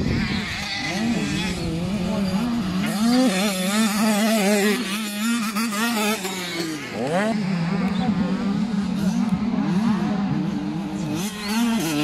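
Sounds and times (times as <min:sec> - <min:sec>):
motocross bikes revving: 0:00.0 - 0:12.0
motorbike passing close: 0:00.0 - 0:12.0.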